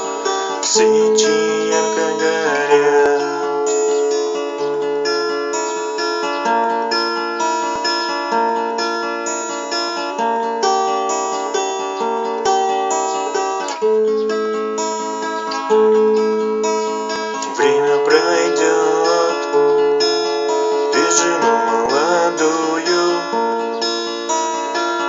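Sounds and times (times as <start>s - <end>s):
acoustic guitar arpeggios: 0.0s - 25.0s.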